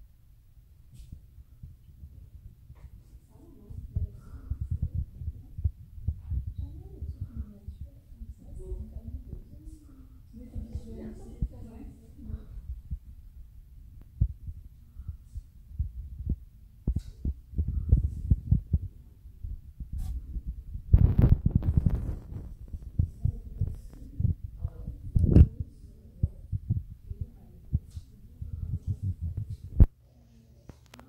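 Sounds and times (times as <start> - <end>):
microphone rush: 1.0 - 29.9.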